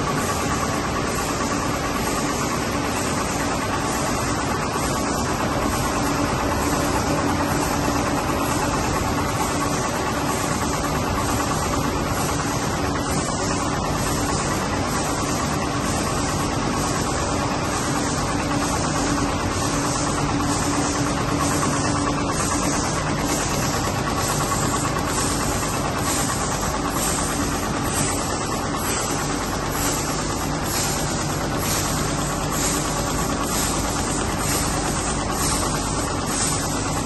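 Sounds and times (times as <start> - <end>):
label press machine humming: 0.0 - 37.0.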